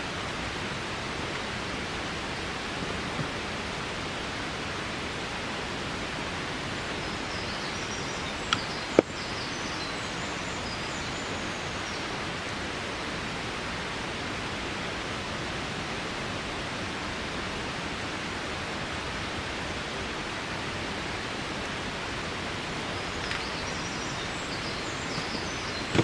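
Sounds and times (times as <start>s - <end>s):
water rushing: 0.0s - 26.0s.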